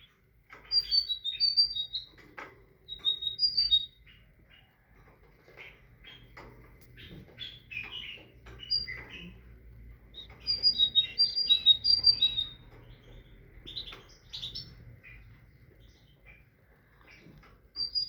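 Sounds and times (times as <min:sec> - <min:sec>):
bird chirps: 0:00.0 - 0:18.0.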